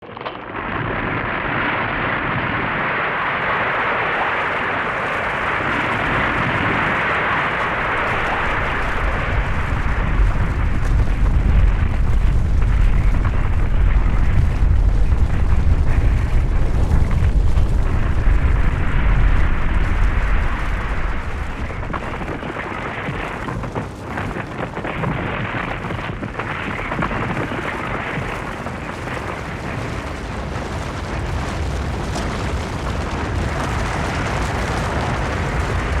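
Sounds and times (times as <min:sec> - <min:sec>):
avalanche deep rumble: 0:00.0 - 0:36.0.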